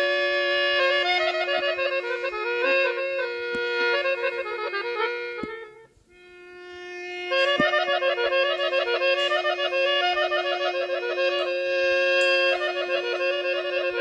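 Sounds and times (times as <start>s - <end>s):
instrumental melody: 0.0s - 14.0s
held drone note: 0.9s - 14.0s.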